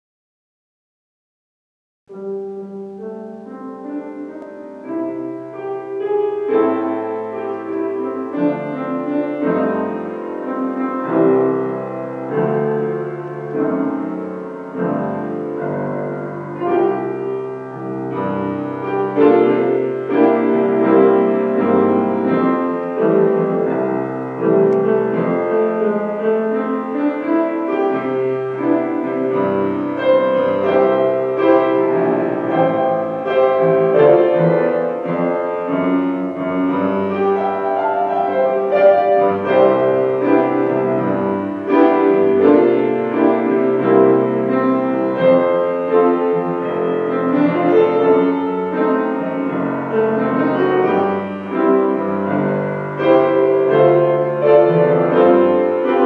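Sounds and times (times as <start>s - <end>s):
piano chords over bass: 2.1s - 56.0s.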